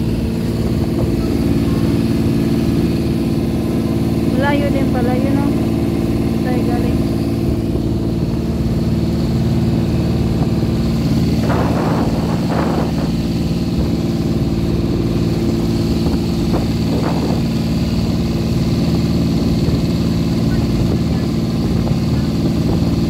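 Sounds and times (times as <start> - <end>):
motorboat engine running: 0.0 - 23.0
water splashing against hull: 0.0 - 23.0.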